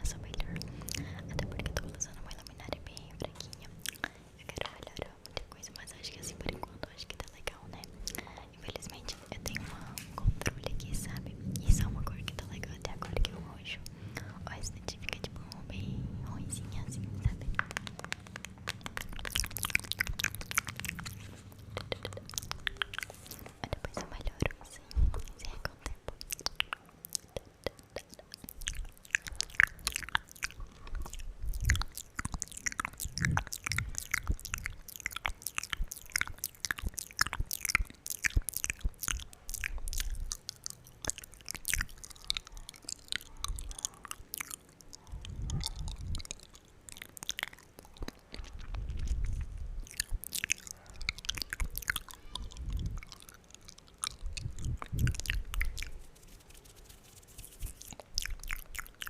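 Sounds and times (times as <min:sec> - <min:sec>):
wet mouth clicks and smacks: 0:00.0 - 0:59.0.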